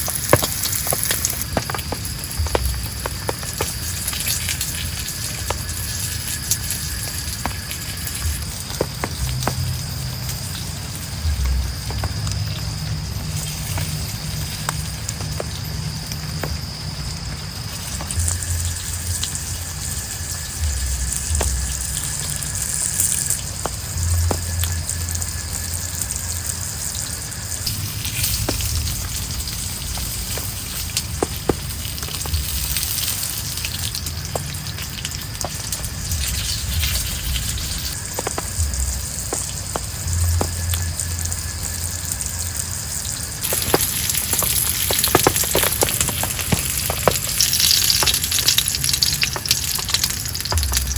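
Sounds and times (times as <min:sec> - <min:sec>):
heavy rain hissing: 0:00.0 - 0:50.9
raindrops ticking: 0:00.0 - 0:50.9.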